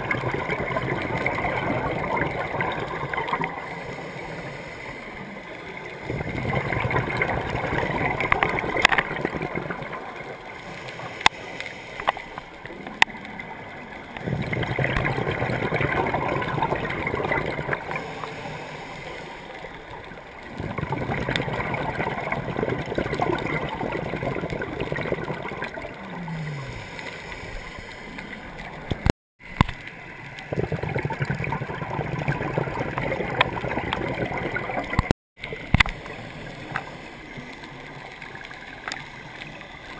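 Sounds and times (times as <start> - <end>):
underwater air bubbles gurgling: 0.0 - 39.9.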